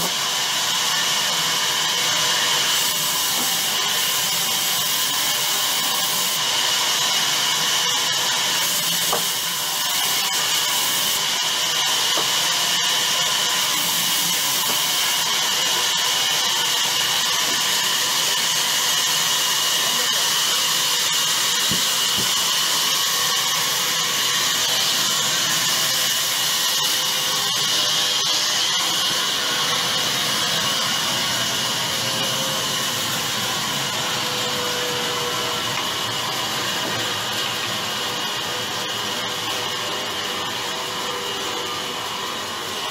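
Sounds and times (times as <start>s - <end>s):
band saw cutting log: 0.0s - 42.0s.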